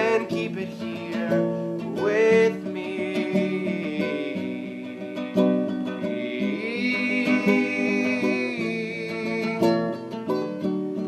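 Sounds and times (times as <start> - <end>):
person singing: 0.0 - 10.1
acoustic guitar strumming chords: 0.0 - 11.0.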